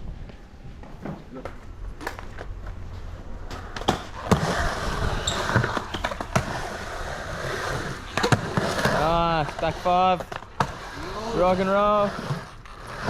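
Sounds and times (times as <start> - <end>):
skateboard wheels rolling: 0.0 - 13.0.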